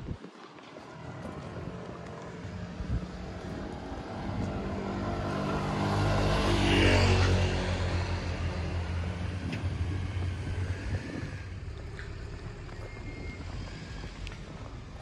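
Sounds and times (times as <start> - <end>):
motor scooter passing by: 0.7 - 15.0.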